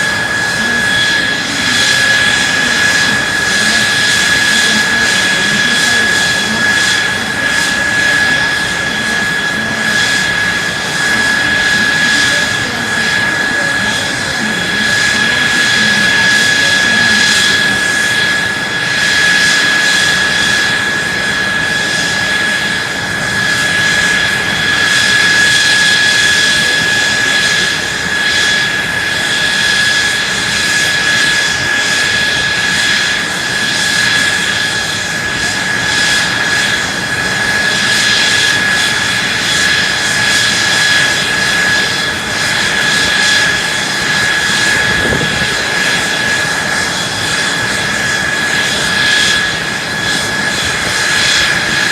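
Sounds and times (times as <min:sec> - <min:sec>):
high-pitched whine: 0:00.0 - 0:51.9
jet engine running: 0:00.0 - 0:51.9.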